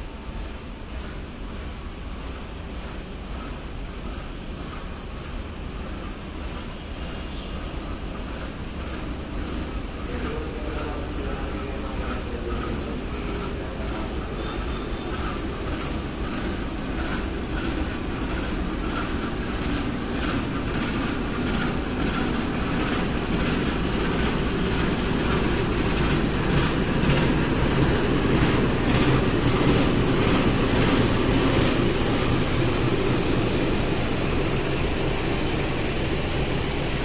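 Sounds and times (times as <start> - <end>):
train rumble: 0.0 - 37.0
train wheels clacking on rails: 0.0 - 37.0.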